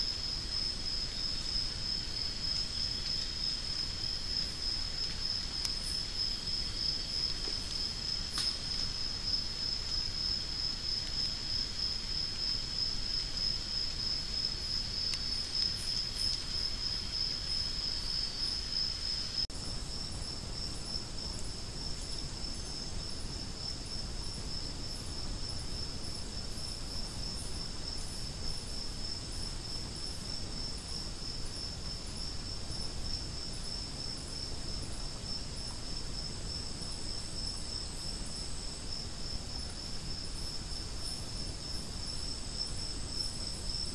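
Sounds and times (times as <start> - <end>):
insects pulsing trill: 0.0 - 43.9
low background hiss: 0.0 - 43.9.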